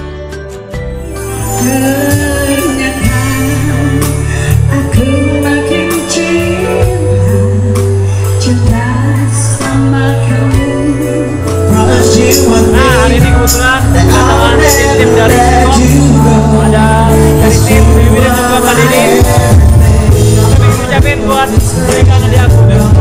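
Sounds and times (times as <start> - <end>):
bass guitar: 0.0 - 23.0
keyboard: 0.0 - 23.0
person singing: 1.2 - 23.0.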